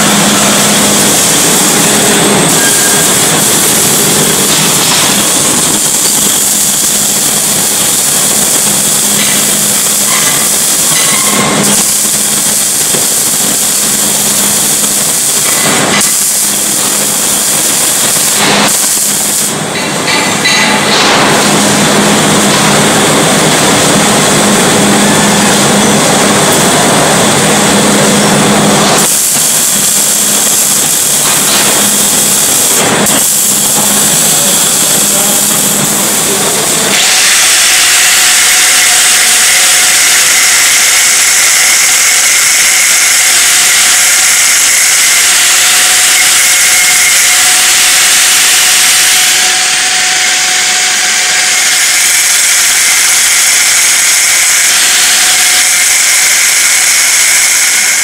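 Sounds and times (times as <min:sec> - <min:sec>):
angle grinder cutting steel: 0:00.0 - 0:21.6, 0:28.8 - 0:58.0
welding arc crackling and hissing: 0:00.0 - 0:58.0.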